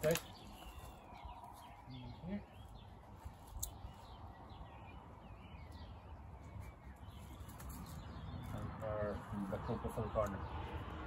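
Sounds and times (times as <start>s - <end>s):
faint birdsong chirps: 0.0s - 11.0s.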